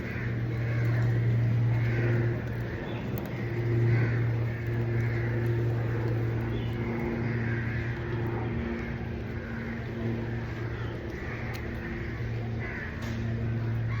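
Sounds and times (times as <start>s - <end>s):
faint steady tones: 0.0s - 14.0s
low mechanical hum: 0.0s - 14.0s.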